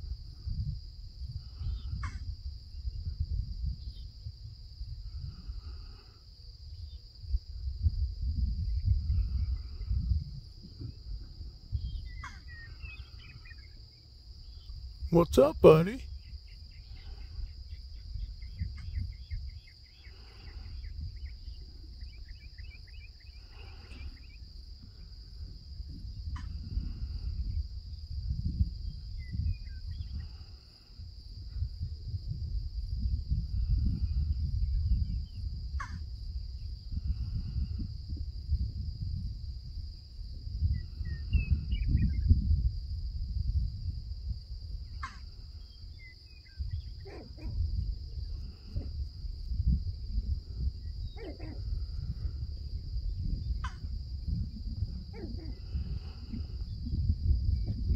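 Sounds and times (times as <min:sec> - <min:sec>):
crickets chirping: 0:00.0 - 0:57.9
wind rumble on microphone: 0:00.0 - 0:57.9.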